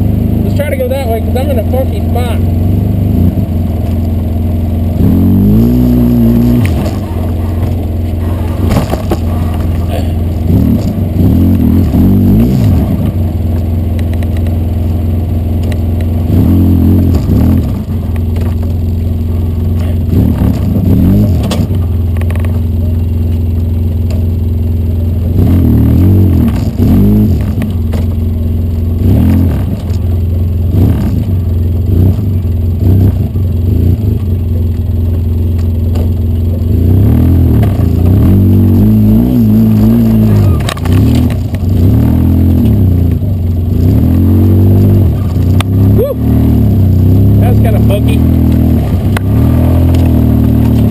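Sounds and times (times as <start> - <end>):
vehicle engine revving: 0.0 - 50.9.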